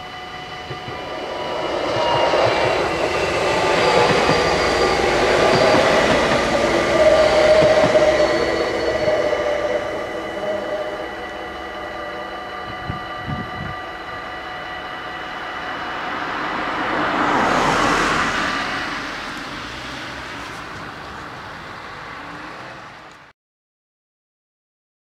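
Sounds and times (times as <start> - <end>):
level crossing warning bells: 0.0 - 23.2
car passing: 0.4 - 12.7, 15.0 - 23.3.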